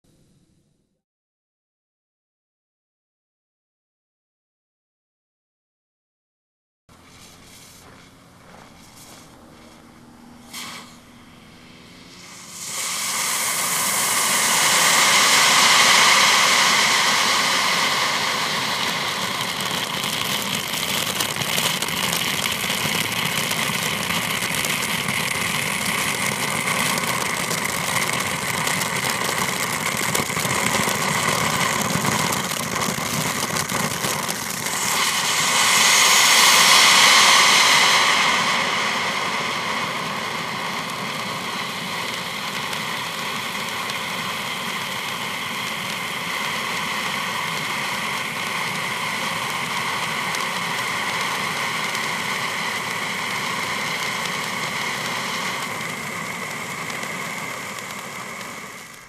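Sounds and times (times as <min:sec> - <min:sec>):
firework fountain hissing and crackling: 0:06.9 - 0:59.0.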